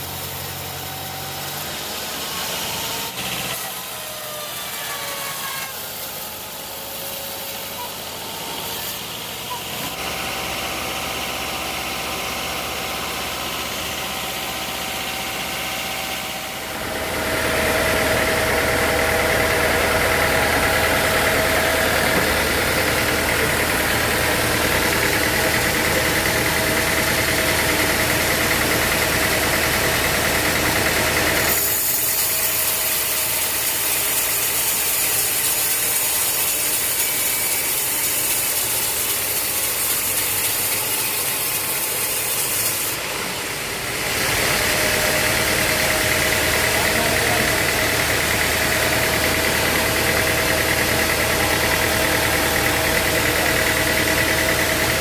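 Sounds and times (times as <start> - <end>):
engine running steadily: 5.7 - 42.3, 42.9 - 55.0.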